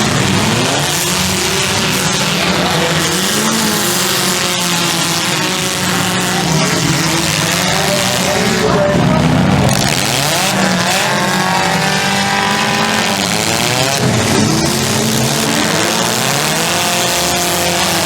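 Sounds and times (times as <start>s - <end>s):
car engines revving hard: 0.0s - 18.0s.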